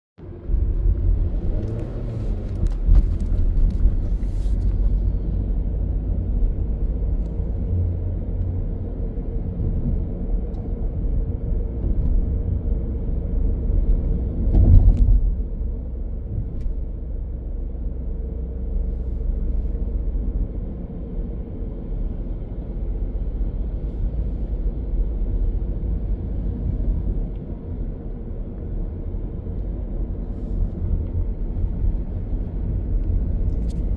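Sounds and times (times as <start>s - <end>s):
car engine and tyre rumble: 0.2s - 33.9s.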